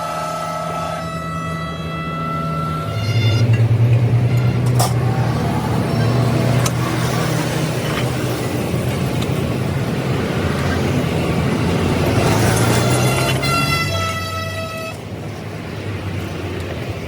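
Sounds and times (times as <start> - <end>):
road vehicle noise: 0.0 - 17.0
truck engine running: 0.3 - 14.2.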